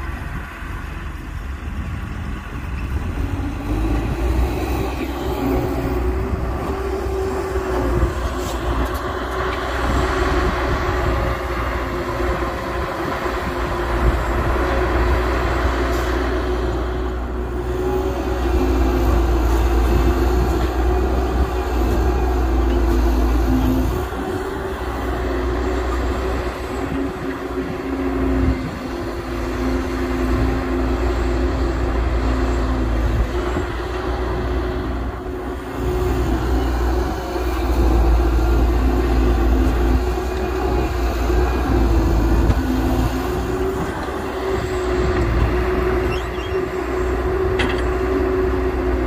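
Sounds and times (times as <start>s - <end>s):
diesel machinery engine rumble: 0.0s - 49.0s.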